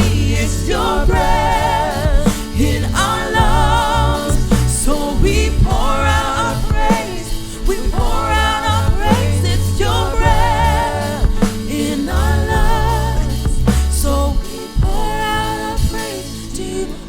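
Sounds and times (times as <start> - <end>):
bass: 0.0 - 17.0
drums: 0.0 - 17.0
person singing with vibrato: 0.0 - 17.0.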